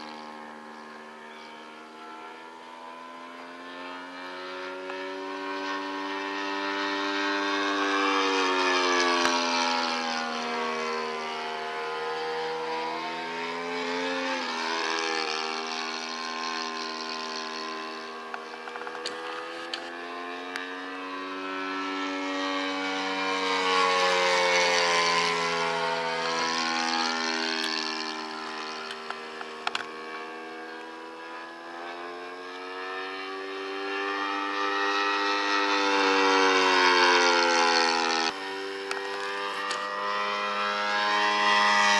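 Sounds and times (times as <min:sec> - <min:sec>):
model airplane engine drone: 0:00.0 - 0:41.9.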